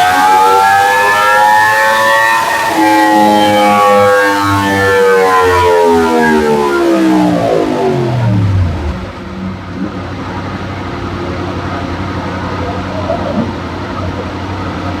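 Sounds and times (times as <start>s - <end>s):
motorcycle engine revs and idling: 0.0s - 15.0s.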